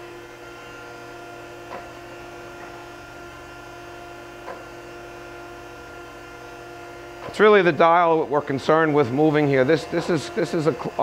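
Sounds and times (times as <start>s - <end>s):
electric hum of grinder motors: 0.0s - 11.0s.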